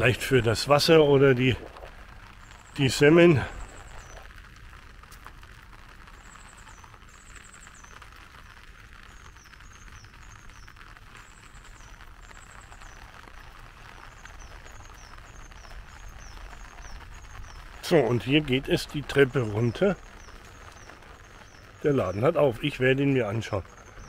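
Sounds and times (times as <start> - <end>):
light rain hiss: 0.0 - 24.0
small bird calling: 0.7 - 4.4, 5.8 - 24.0.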